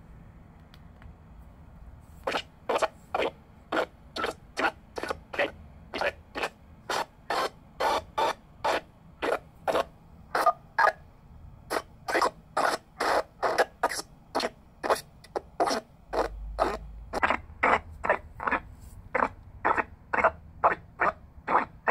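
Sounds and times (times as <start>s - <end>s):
scratchy radio noise bursts: 2.2s - 10.9s, 11.7s - 21.9s.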